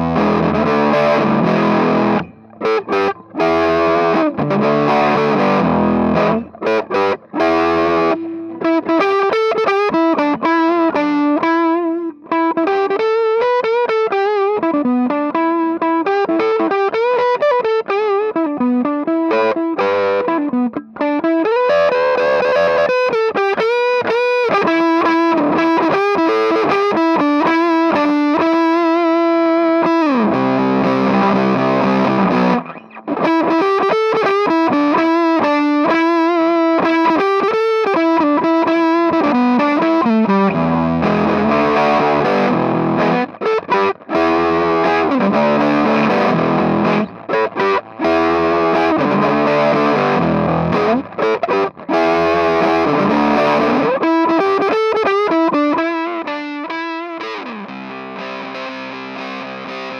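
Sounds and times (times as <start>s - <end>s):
fuzzed electric guitar riff: 0.0s - 59.9s.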